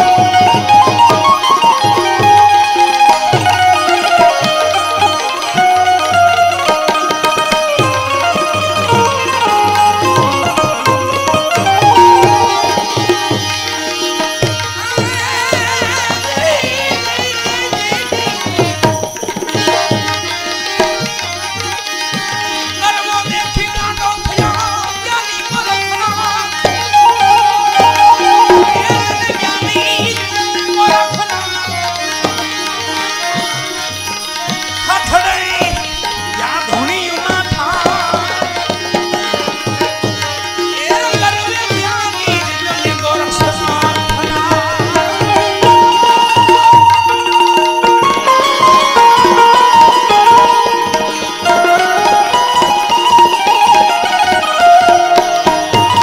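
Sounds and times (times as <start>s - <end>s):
devotional music: 0.0s - 56.0s
melody instrument: 0.0s - 56.0s
tabla: 0.0s - 56.0s.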